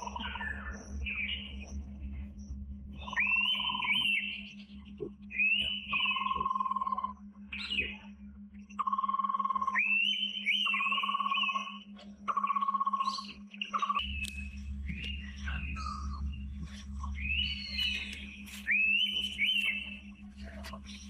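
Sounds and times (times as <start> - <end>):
birds whistling: 0.0 - 1.8, 3.0 - 8.1, 9.6 - 21.0
steady low hum: 0.0 - 21.0.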